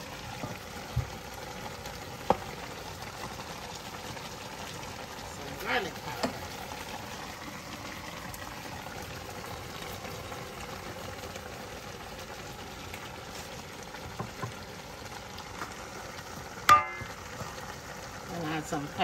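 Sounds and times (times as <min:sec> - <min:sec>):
pot sizzling and bubbling: 0:00.0 - 0:19.0.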